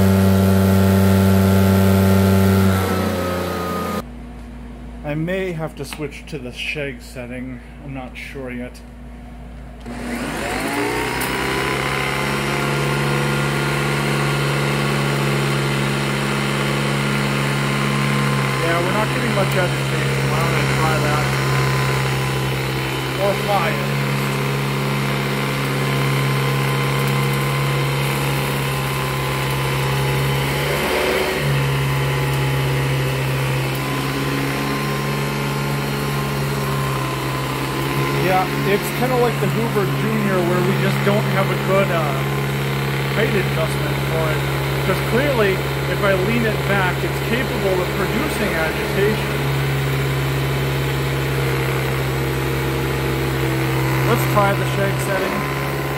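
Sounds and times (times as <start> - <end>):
vacuum cleaner motor: 0.0 - 4.1, 9.8 - 55.9.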